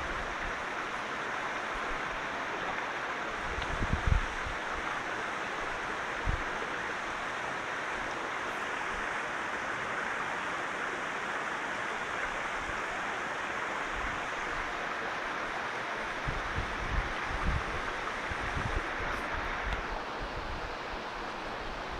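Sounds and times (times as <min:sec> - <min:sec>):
stream rushing over stones: 0:00.0 - 0:21.9.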